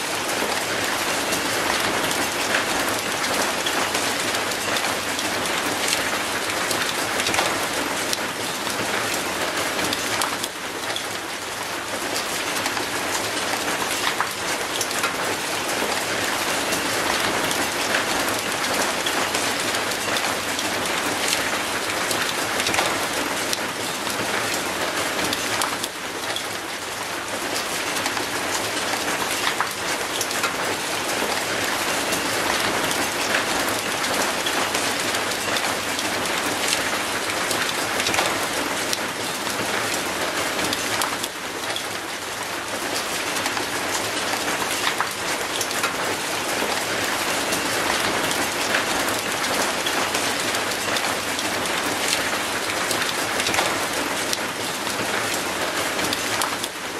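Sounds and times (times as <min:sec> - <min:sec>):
rain on concrete and metal gate: 0:00.0 - 0:56.9.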